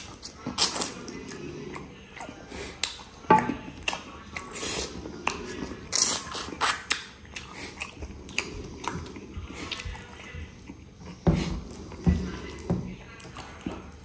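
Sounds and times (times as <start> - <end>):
person chewing with wet smacking: 0.0 - 14.0.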